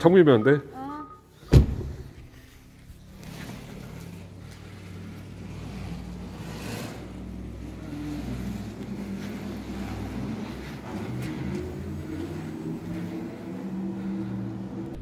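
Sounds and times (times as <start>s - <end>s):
electric car low electronic hum: 0.0s - 15.0s.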